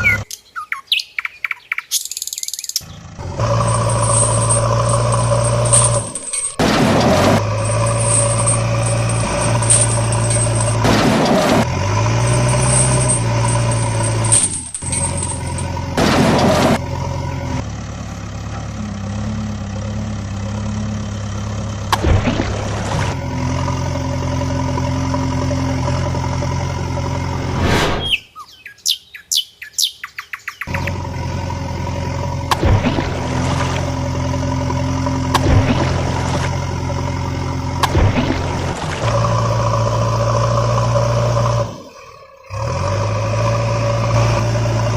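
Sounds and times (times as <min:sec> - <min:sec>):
vehicle engine humming: 0:00.0 - 0:00.4, 0:02.5 - 0:28.2, 0:30.6 - 0:44.9.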